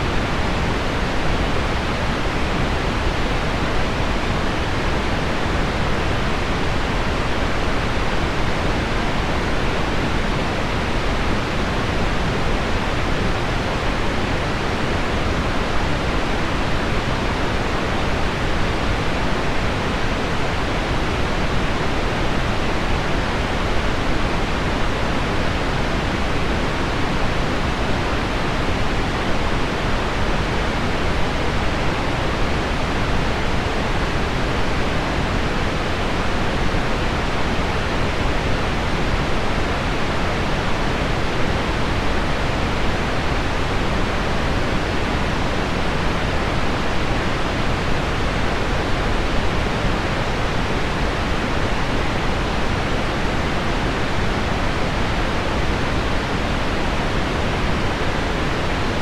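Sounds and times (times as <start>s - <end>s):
pink noise: 0.0s - 59.0s.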